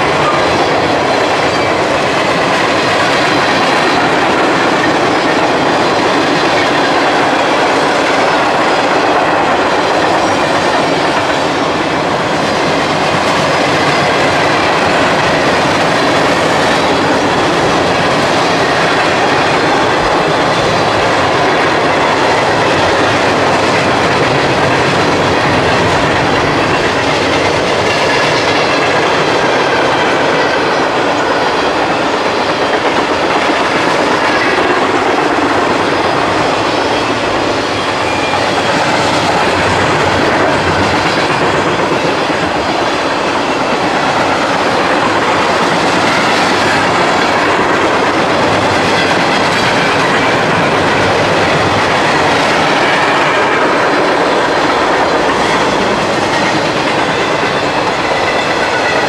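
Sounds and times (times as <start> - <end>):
train wheels clacking over rail joints: 0.0 - 59.0.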